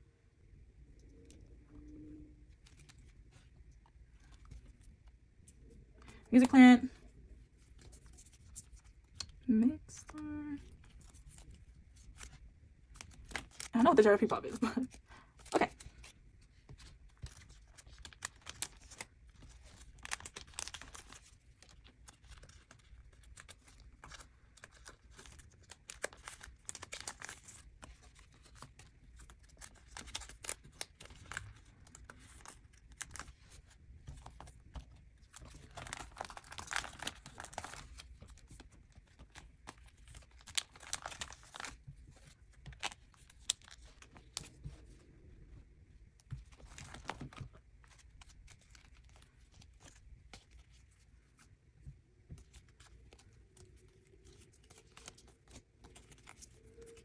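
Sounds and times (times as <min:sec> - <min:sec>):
plastic sleeves rustling and crinkling: 0:01.1 - 0:57.0.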